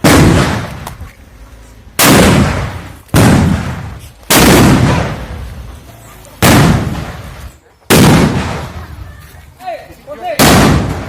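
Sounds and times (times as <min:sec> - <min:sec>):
firecrackers banging: 0:00.0 - 0:01.2, 0:01.9 - 0:09.2, 0:10.4 - 0:11.0.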